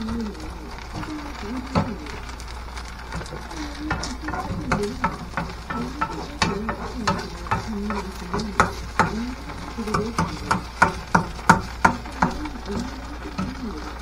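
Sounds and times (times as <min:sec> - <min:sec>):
batter sizzling in oil: 0:00.0 - 0:14.0
ladle scraping and tapping a pan: 0:00.8 - 0:14.0.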